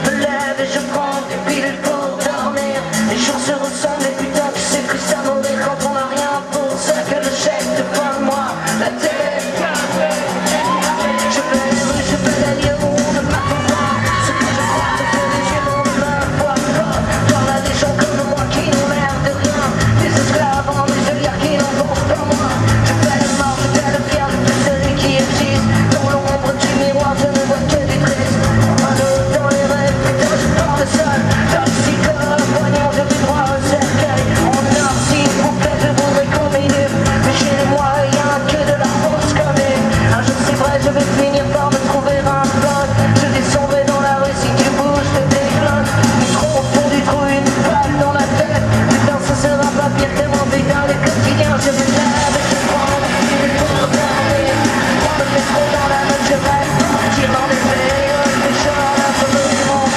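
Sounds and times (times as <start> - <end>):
live rock band playing: 0.0 - 59.9
man singing and shouting: 0.0 - 59.9.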